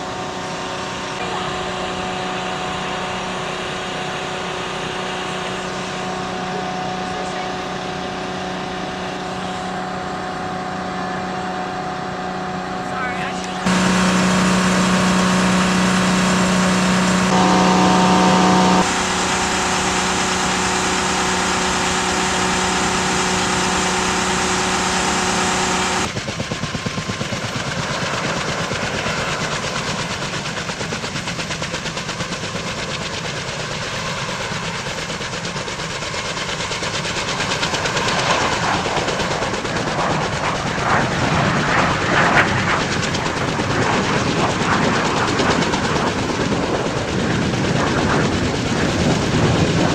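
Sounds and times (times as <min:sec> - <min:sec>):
helicopter rotors beating: 0:00.0 - 0:49.9
helicopter turbine whine: 0:00.0 - 0:49.9.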